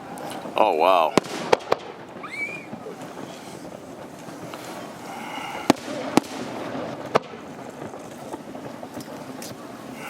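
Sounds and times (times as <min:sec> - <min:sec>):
fireworks shells bursting: 0:00.0 - 0:10.0.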